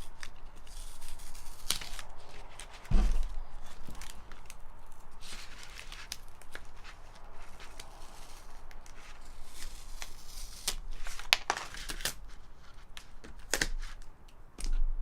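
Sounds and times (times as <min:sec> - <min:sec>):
packing tape tearing: 0:00.0 - 0:14.7
packaging crinkling: 0:00.0 - 0:14.8.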